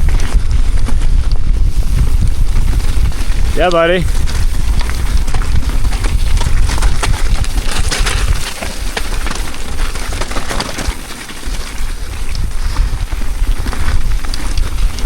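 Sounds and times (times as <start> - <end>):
bike clicking and rattling: 0.0 - 15.0
wind buffeting microphone: 0.0 - 15.0
tyres crunching over gravel: 2.6 - 15.0.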